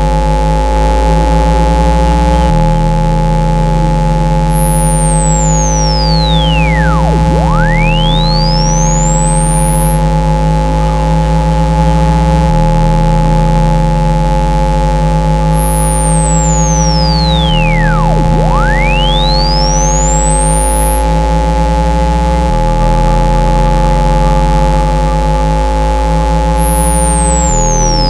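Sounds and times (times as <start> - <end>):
bass tone changing pitch: 0.0 - 28.0
sine sweep: 0.0 - 28.0
steady pure tones: 0.0 - 28.0.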